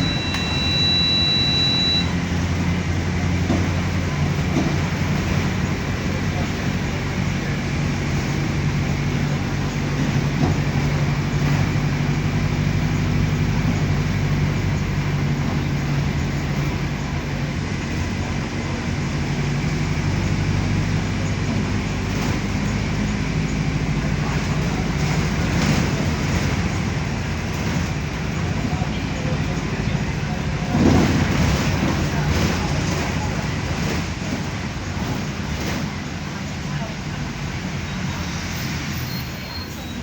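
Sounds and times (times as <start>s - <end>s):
bus diesel engine running: 0.0s - 40.0s
road noise: 0.0s - 40.0s.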